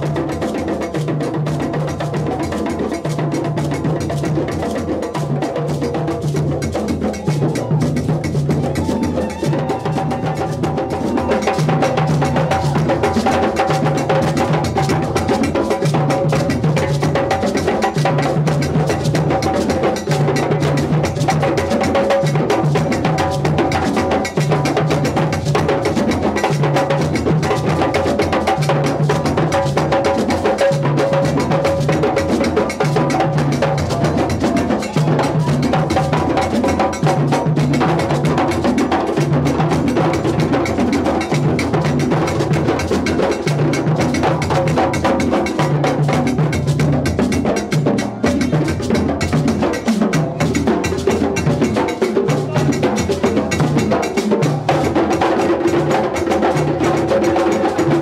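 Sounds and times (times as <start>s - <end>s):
hand drums fast rhythm: 0.0s - 58.0s.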